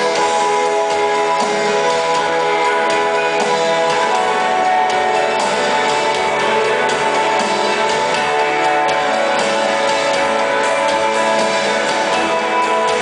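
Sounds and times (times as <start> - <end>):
drums: 0.0 - 13.0
sustained electric guitars: 0.0 - 13.0.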